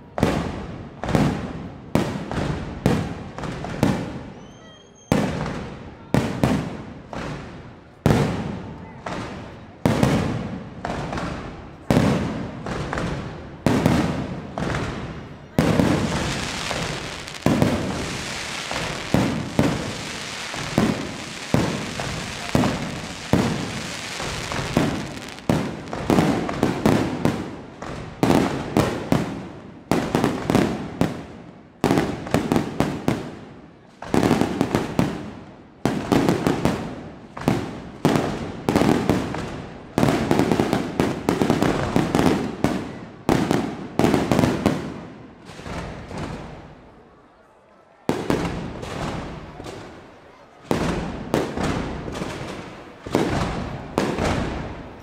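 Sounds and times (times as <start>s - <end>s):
fireworks bursting: 8.1s - 33.4s, 34.0s - 46.6s, 48.1s - 55.0s.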